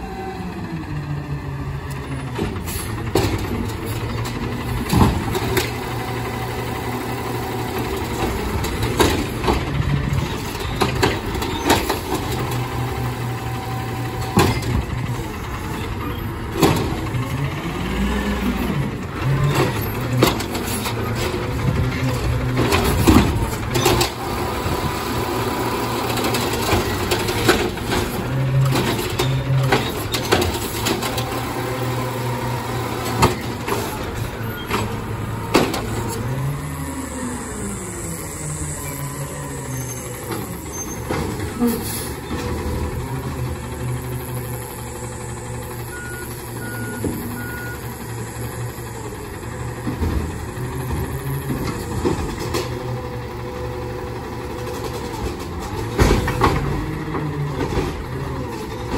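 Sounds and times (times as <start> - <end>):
garbage truck engine running: 0.0 - 58.9.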